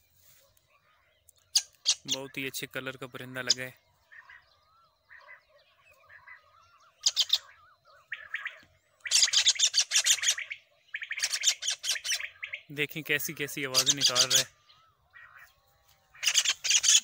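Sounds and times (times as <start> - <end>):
bird screeching calls: 0.8 - 17.0.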